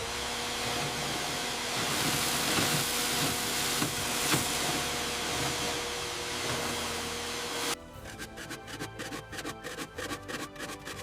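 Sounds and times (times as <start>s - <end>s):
small motor tool hissing: 0.0s - 11.0s.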